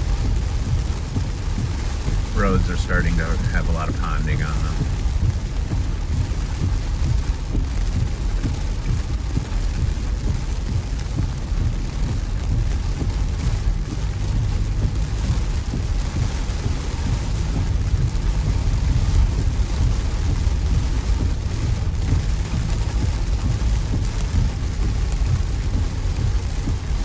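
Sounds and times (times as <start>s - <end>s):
car driving on wet road: 0.0s - 27.0s
rain on a moving car: 0.0s - 27.0s.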